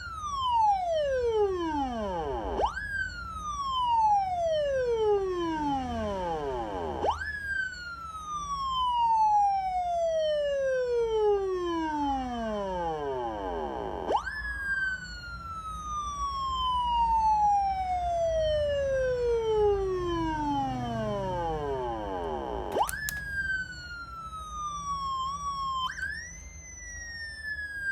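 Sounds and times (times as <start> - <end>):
electronic wail siren: 0.0 - 27.9.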